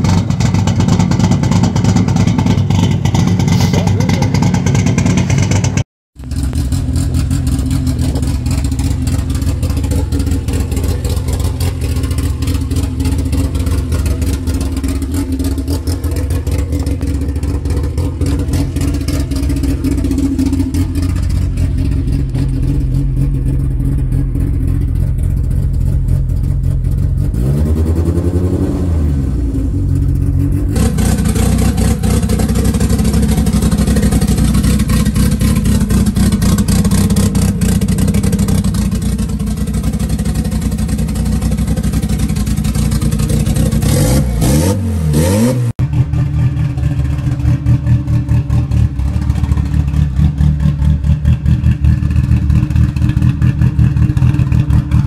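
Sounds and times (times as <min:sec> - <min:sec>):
car engine idling: 0:00.0 - 0:27.5, 0:29.3 - 0:45.0, 0:45.8 - 0:55.0.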